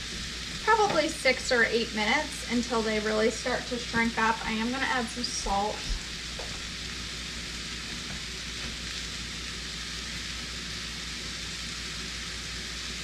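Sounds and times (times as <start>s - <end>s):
mushrooms sizzling in a skillet: 0.0s - 13.0s.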